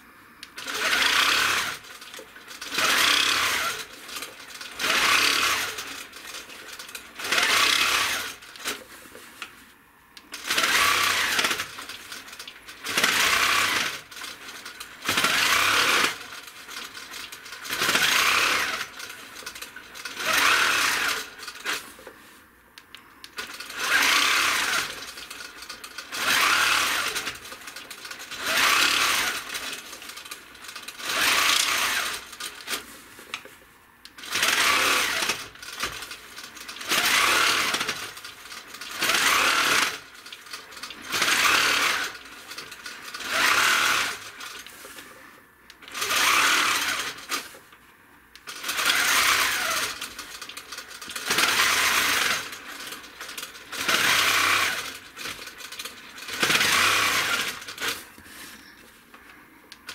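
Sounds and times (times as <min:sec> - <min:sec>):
quilting machine stitching: 0:00.5 - 0:08.9, 0:10.3 - 0:22.0, 0:23.2 - 0:32.9, 0:34.2 - 0:45.2, 0:45.8 - 0:47.6, 0:48.4 - 0:58.2.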